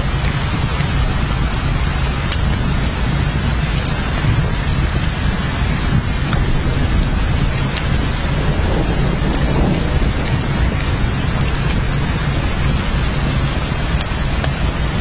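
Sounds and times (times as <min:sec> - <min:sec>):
heavy rain: 0:00.0 - 0:15.0
raindrops ticking sharply: 0:00.0 - 0:15.0.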